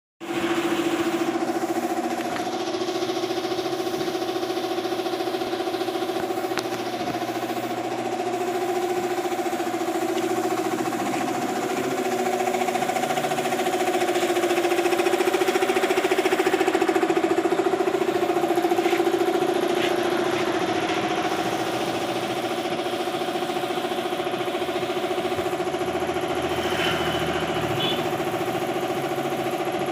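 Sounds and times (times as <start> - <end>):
air compressor running: 0.2 - 29.9.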